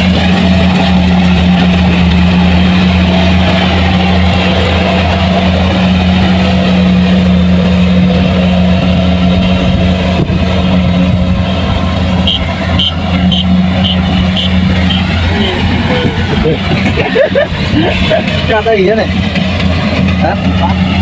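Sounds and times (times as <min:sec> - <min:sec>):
combine harvester engine humming: 0:00.0 - 0:21.0.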